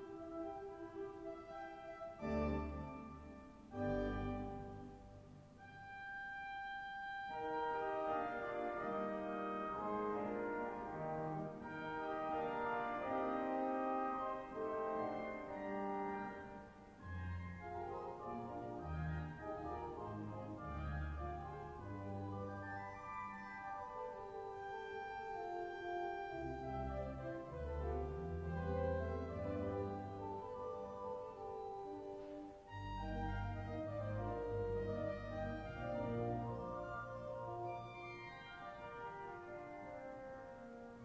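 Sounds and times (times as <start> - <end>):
pipe organ chords: 0.0 - 41.0
deep organ pedal bass notes: 2.2 - 6.1, 7.0 - 23.4, 24.2 - 32.0, 32.7 - 40.6.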